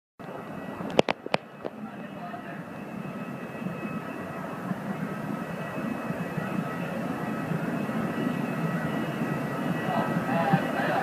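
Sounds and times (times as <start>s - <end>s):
high-pitched whining tones: 0.2s - 11.0s
jet aircraft rumble: 0.2s - 11.0s.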